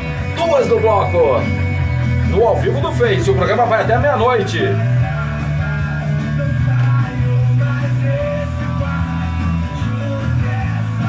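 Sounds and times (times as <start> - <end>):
rock music with guitar and bass: 0.0 - 11.0.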